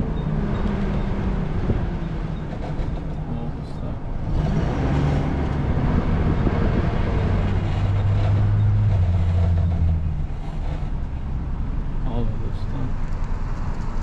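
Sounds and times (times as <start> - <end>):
road noise: 0.0 - 14.0
truck engine hum: 0.0 - 14.0.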